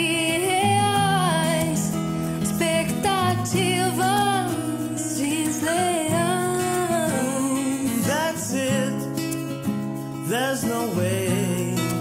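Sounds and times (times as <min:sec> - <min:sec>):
instrumental accompaniment: 0:00.0 - 0:12.0.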